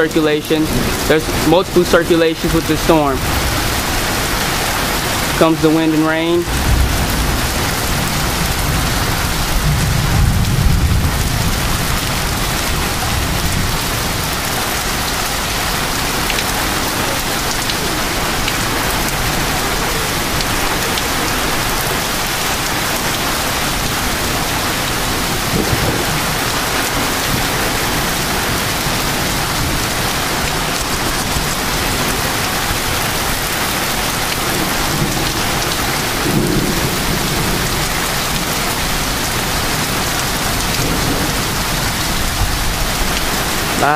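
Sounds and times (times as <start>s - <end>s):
heavy rain and wind: 0.0s - 43.9s
low thunder rumble: 0.6s - 5.4s, 6.4s - 43.8s.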